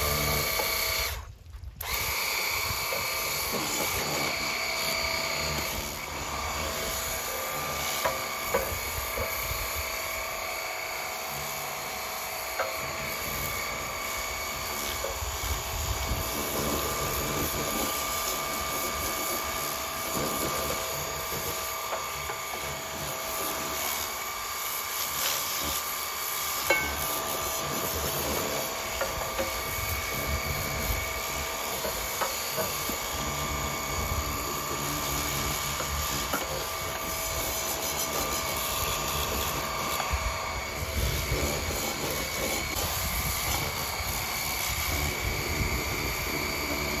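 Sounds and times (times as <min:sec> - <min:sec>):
pressure washer motor whine: 0:00.0 - 0:47.0.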